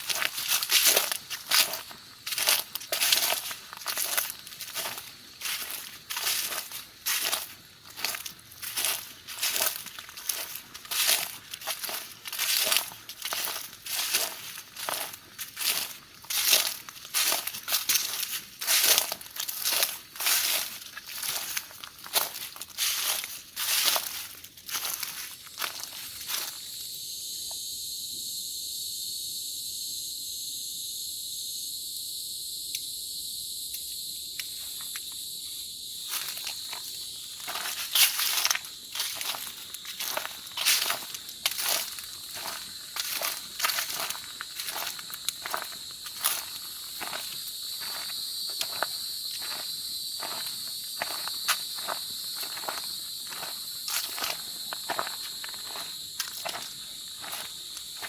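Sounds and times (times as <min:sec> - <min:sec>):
footsteps on a trail: 0:00.0 - 0:26.9, 0:34.6 - 0:58.0
insects buzzing: 0:00.0 - 0:58.0.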